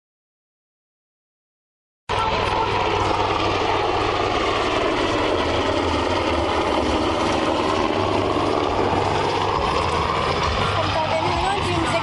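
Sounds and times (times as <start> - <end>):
helicopter in flight: 2.1 - 12.0.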